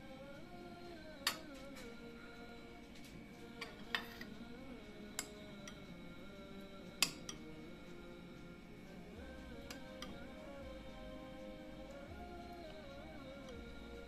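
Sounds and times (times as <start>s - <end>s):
soft background music: 0.0s - 14.0s
sustained hum: 0.0s - 14.0s.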